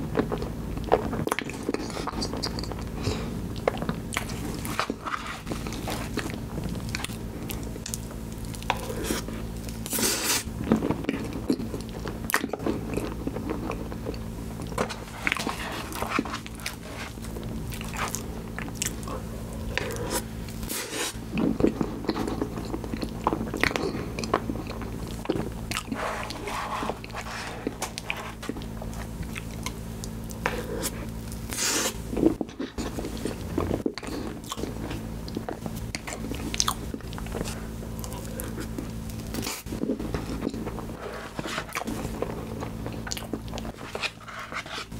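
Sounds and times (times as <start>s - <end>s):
chewing and wet mouth sounds: 0.2s - 44.9s.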